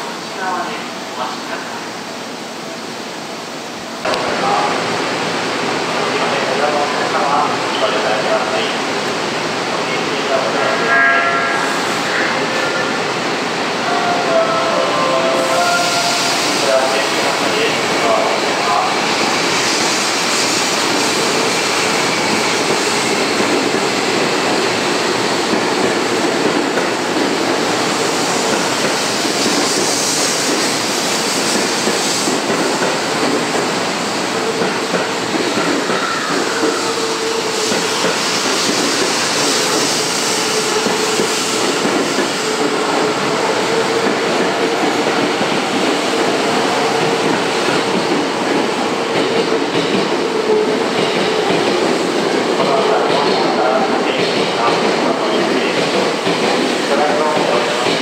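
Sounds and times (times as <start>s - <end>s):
electric train running past: 4.1s - 58.0s.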